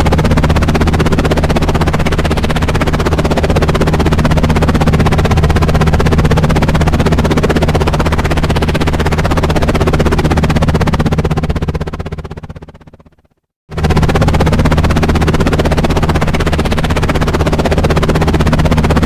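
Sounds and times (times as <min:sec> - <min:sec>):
helicopter low drone: 0:00.0 - 0:19.0
helicopter rotor beating: 0:00.0 - 0:19.0.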